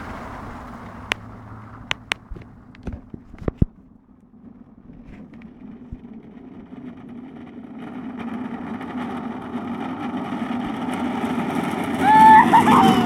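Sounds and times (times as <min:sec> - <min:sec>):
tyres rolling on wet road: 0:00.0 - 0:13.0.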